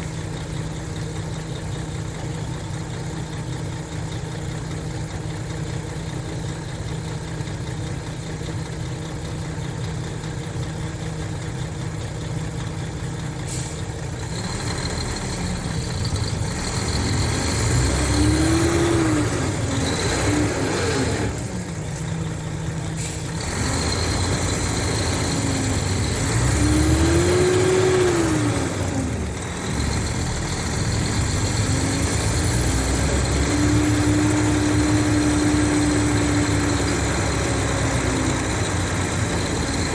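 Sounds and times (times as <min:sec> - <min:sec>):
bus diesel engine idling and revving: 0:00.0 - 0:39.9.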